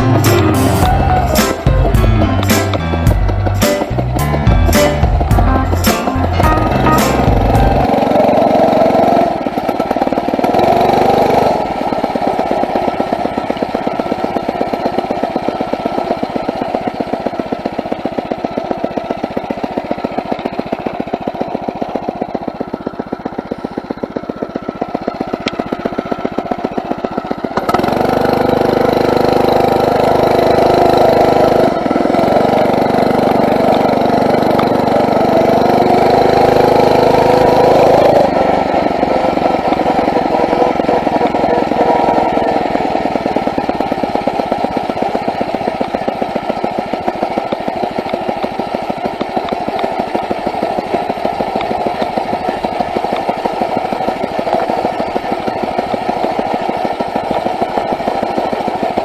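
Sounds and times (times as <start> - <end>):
small engine putt-putt: 0.0 - 59.0.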